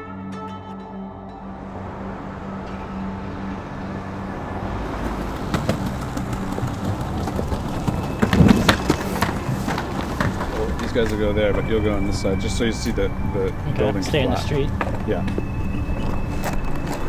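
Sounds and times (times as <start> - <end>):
low music tone: 0.0 - 17.0
street noise: 0.0 - 17.0.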